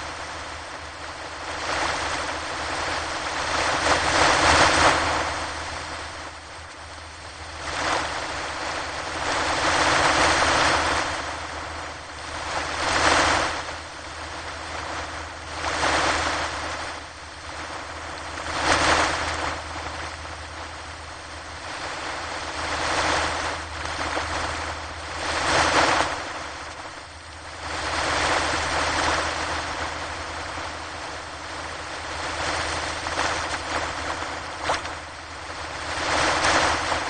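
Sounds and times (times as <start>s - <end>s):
ocean waves breaking on beach: 0.0s - 37.0s.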